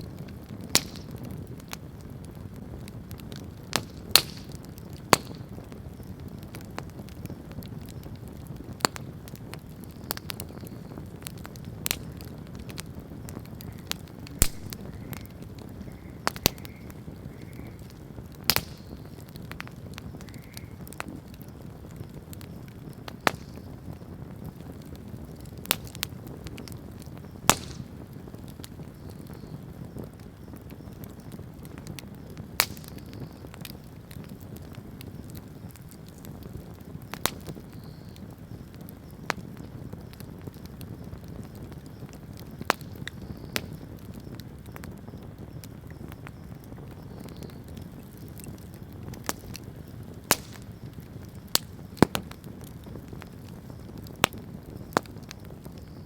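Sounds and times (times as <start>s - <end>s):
bonfire crackling and popping: 0.0s - 56.0s
low rush of flame: 0.0s - 56.0s.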